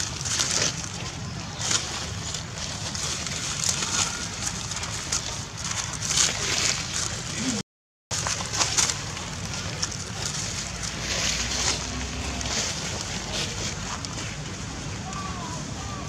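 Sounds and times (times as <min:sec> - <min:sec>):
dry leaves crackling underfoot: 0:00.0 - 0:16.0.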